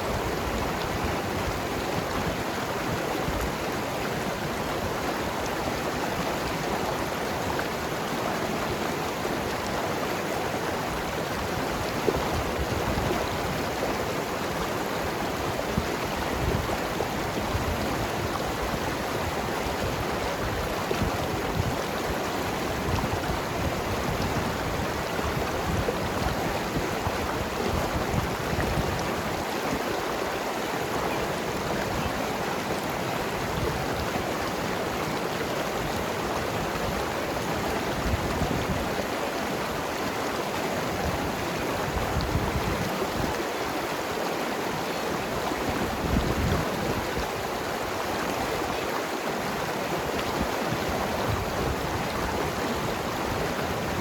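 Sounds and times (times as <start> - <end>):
river gurgling over rocks: 0.0 - 54.0.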